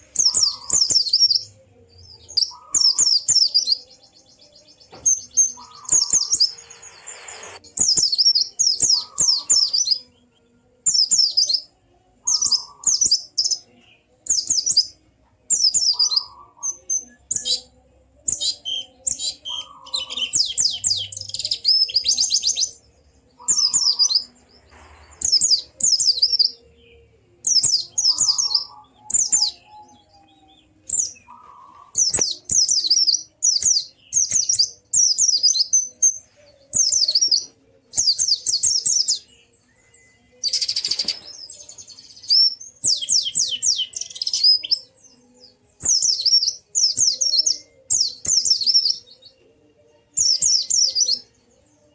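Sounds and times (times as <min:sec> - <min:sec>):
bird singing chattering trills: 0:00.0 - 0:10.2, 0:10.8 - 0:49.1.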